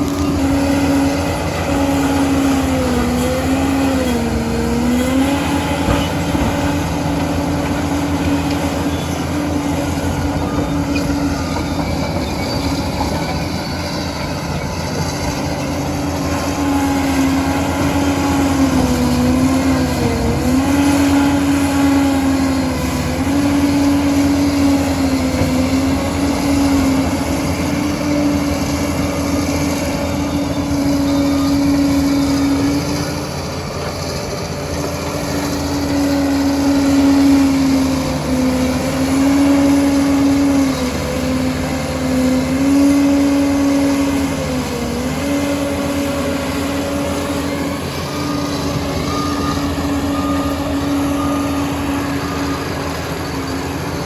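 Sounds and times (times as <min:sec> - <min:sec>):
bulldozer engine drone: 0:00.0 - 0:54.0.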